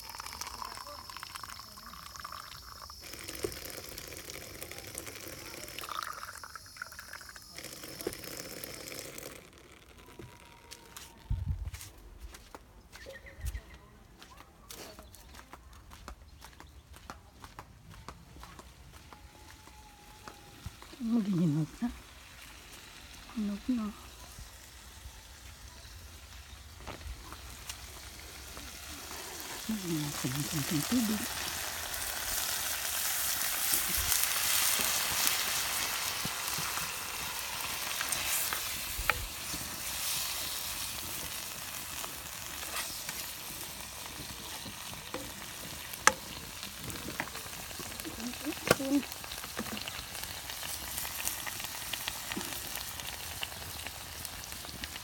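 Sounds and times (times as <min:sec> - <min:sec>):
vegetables sizzling in a frying pan: 0:00.0 - 0:11.2, 0:20.0 - 0:55.0.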